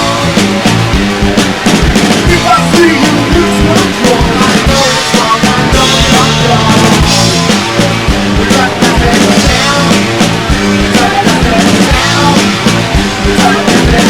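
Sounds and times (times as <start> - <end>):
drum kit beat: 0.0 - 14.0
loud rock music: 0.0 - 14.0.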